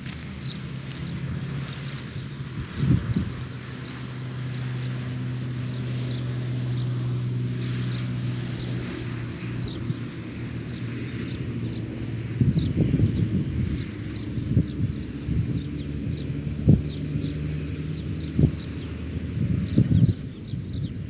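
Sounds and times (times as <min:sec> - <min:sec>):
low engine hum: 0:00.0 - 0:21.0
small birds chirping: 0:00.0 - 0:21.0.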